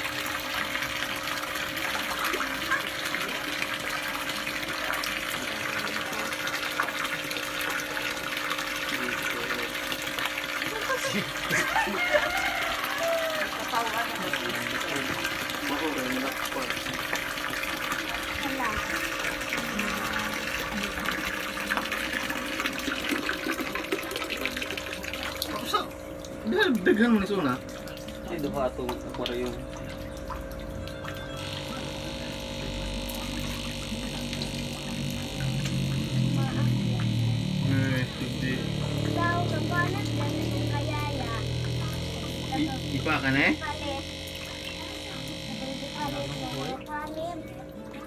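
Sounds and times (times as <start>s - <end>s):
low steady hum: 0.0s - 48.0s
water pouring and splashing: 0.0s - 48.0s.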